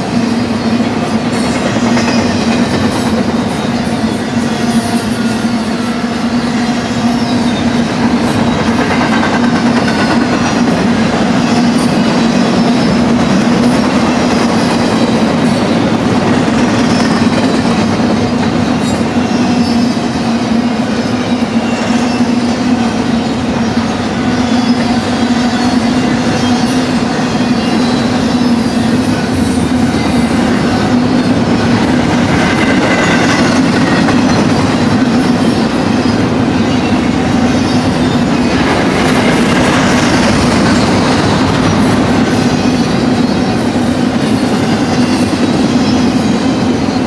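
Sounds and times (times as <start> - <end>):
train wheels rumbling on rails: 0.0 - 47.0
wheel squeals: 0.0 - 47.0.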